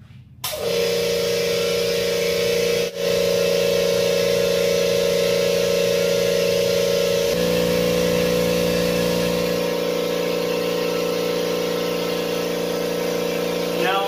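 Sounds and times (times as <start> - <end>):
air compressor motor and pump hum: 0.4 - 14.0.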